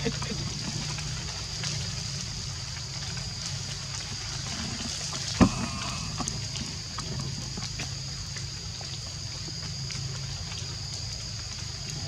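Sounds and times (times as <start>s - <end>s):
high-pitched insect drone: 0.0s - 11.8s.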